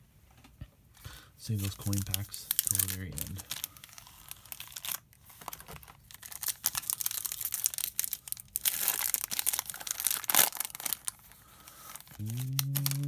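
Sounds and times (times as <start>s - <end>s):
foil wrapper crinkling: 1.6s - 13.0s.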